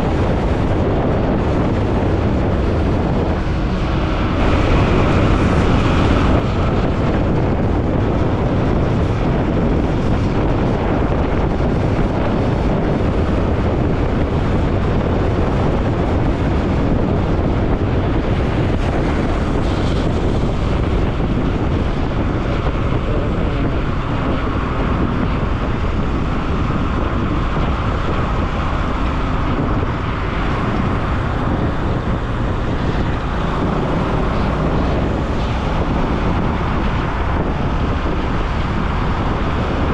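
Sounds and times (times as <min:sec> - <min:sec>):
motorcycle engine running: 0:00.0 - 0:39.9
wind buffeting on microphone: 0:00.0 - 0:39.9.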